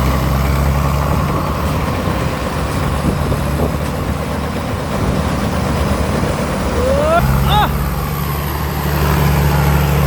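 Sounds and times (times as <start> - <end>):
combine harvester engine hum: 0.0 - 10.0.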